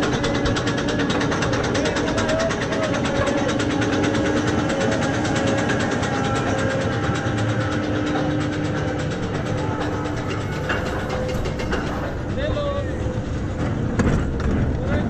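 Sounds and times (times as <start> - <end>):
mechanical hum: 0.0 - 15.0
roller coaster chain lift clicking: 0.0 - 15.0.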